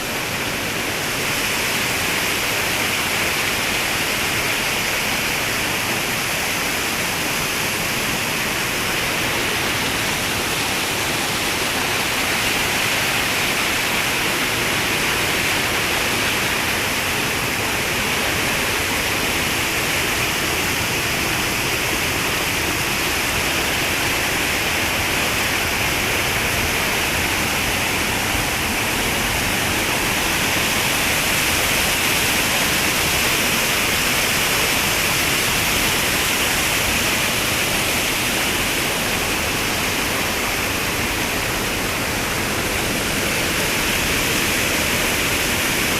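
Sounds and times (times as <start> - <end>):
water rushing: 0.0 - 45.9.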